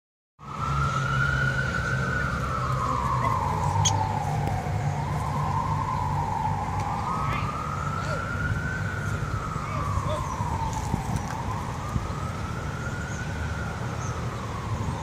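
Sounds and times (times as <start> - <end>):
emergency siren wailing: 0.4 - 15.0.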